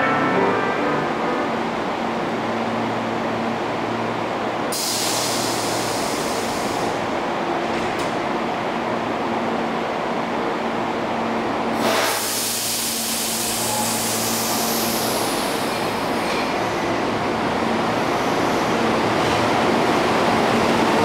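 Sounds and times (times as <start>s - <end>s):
electric train humming and pulling away: 0.0s - 21.0s.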